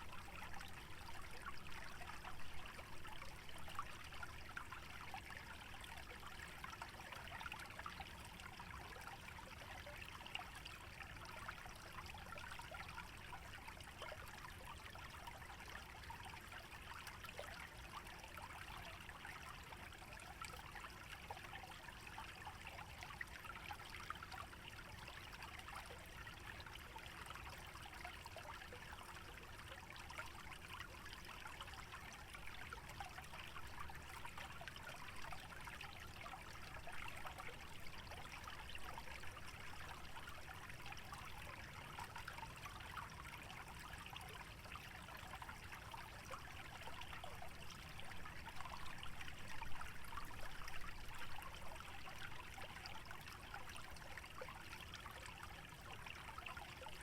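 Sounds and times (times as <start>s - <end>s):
shallow stream trickling: 0.0s - 57.0s.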